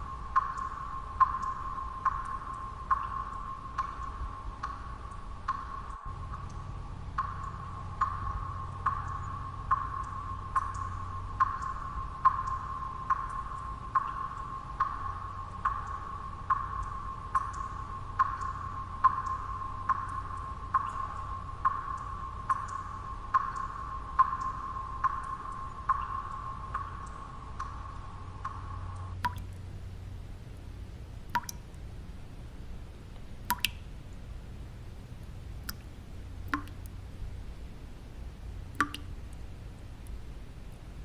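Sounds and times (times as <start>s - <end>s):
water drops dripping: 0.0s - 6.6s, 7.2s - 28.6s, 29.2s - 41.0s
low steady background noise: 0.0s - 41.0s.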